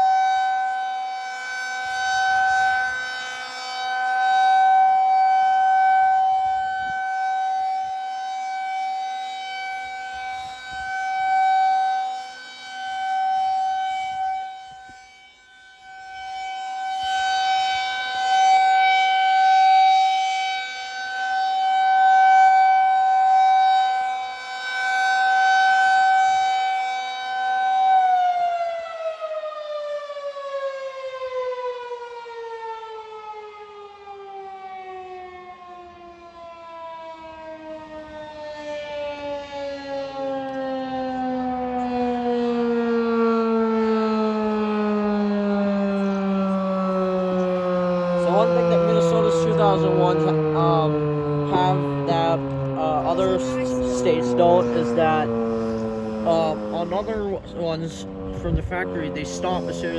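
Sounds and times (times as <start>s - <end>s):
tornado siren wailing: 0.0s - 59.9s.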